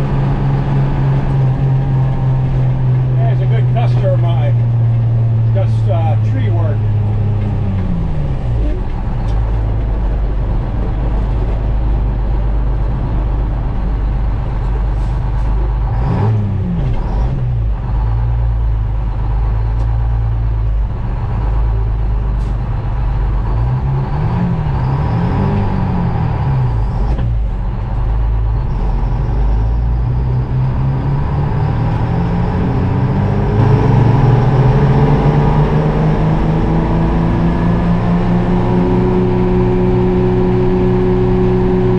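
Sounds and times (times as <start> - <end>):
diesel truck engine shifting gears: 0.0 - 41.9.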